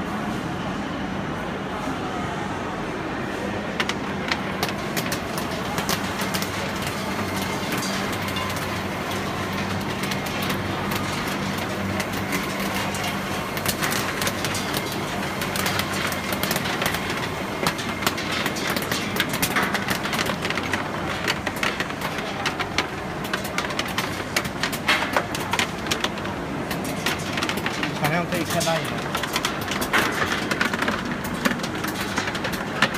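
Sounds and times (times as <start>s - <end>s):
machine humming: 3.9s - 32.9s.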